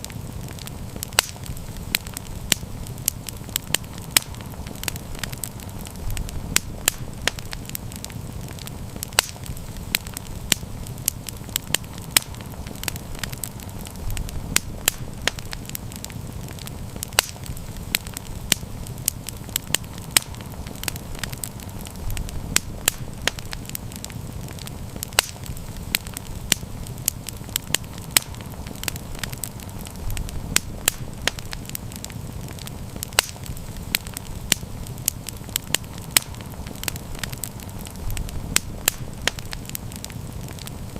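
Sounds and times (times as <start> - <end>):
burning wood popping and snapping: 0.0 - 40.9
low fire rumble: 0.0 - 40.9.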